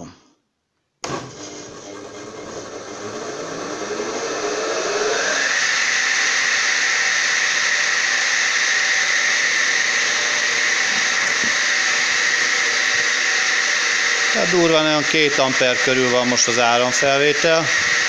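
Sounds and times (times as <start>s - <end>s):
circular saw motor whining: 1.7s - 18.0s.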